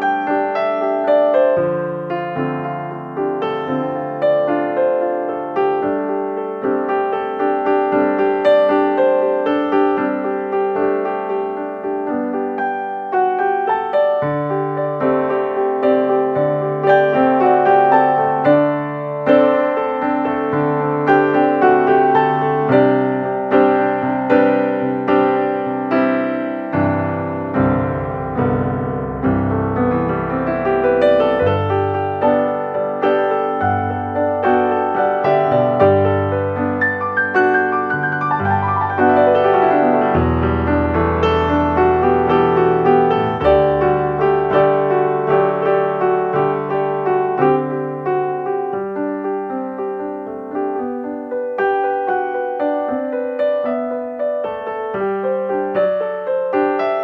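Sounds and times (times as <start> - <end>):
gentle piano piece: 0.0 - 57.0.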